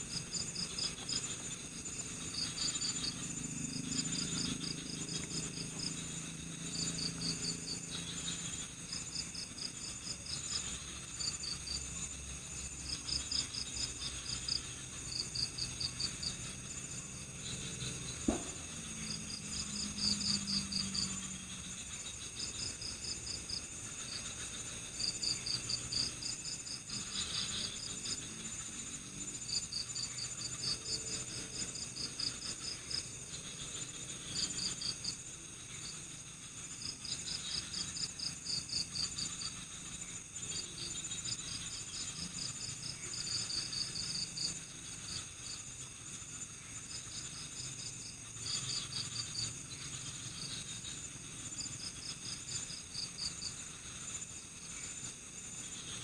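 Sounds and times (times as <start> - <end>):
crickets chirping: 0.0 - 56.0
high insect drone: 0.0 - 56.0.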